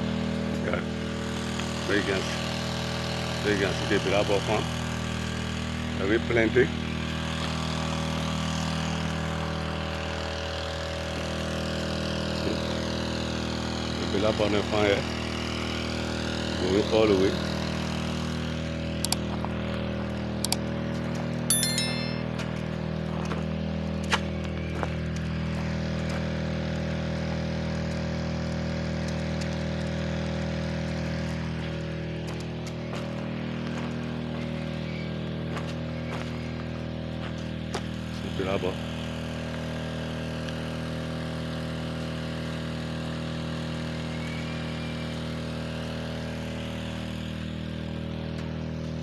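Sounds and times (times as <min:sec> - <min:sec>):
small engine running steadily: 0:00.0 - 0:49.0.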